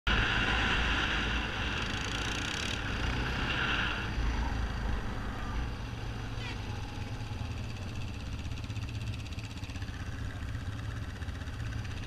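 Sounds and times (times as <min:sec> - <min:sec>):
atv engine droning: 0:00.1 - 0:12.0
wind and road noise hiss: 0:00.1 - 0:12.0.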